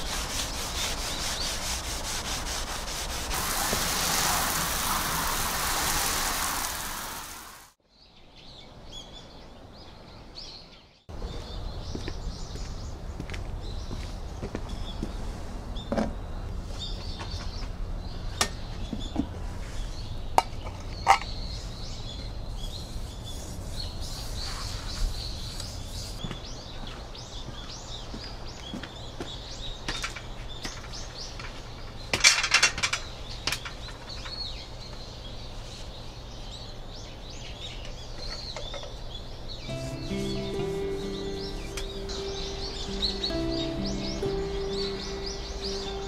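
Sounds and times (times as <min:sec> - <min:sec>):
small birds chirping: 0:03.4 - 0:32.2, 0:32.9 - 0:46.0.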